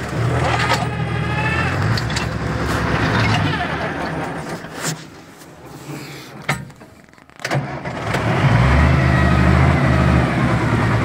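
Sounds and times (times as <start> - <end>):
tractor engine starting and running: 0.0 - 11.0.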